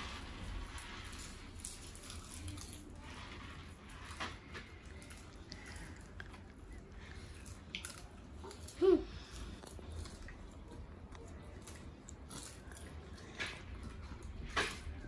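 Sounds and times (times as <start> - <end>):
popcorn crunching and chewing: 0.0 - 15.0.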